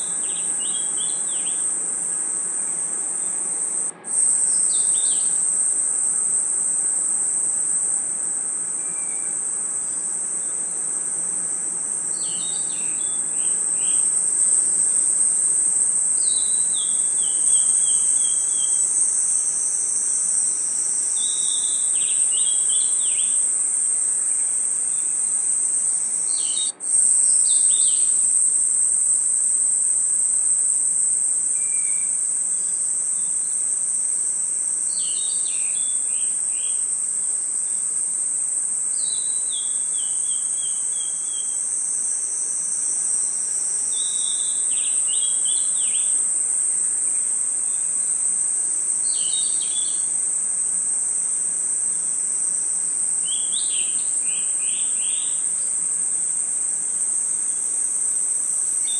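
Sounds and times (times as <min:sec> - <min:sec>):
crickets and insects chorus: 0:00.0 - 0:58.9.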